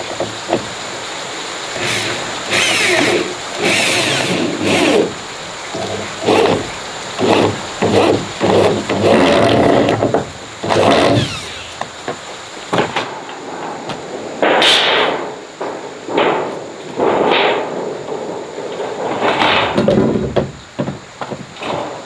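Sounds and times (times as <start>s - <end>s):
knocks bangs and scraping: 0.0s - 22.0s.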